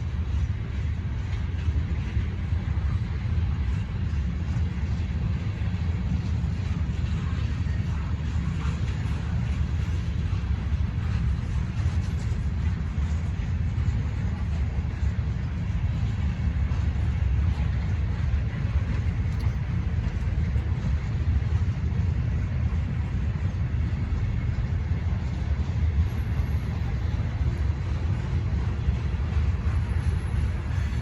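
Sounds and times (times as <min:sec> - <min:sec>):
freight train rumbling past: 0:00.0 - 0:31.0.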